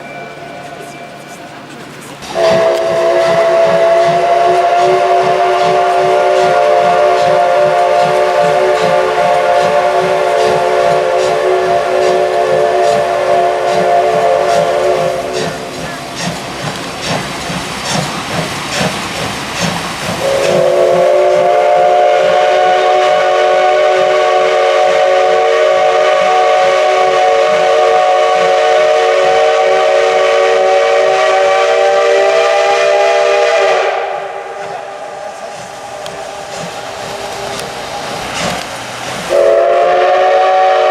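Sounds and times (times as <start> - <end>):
steam locomotive exhaust chuffing: 0.0 - 40.9
steam whistle chord: 2.3 - 15.8, 20.2 - 38.6, 39.3 - 40.9.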